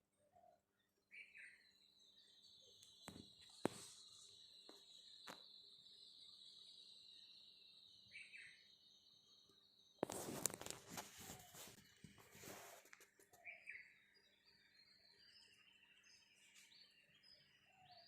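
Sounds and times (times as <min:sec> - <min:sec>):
bird chirps: 0:00.2 - 0:18.0.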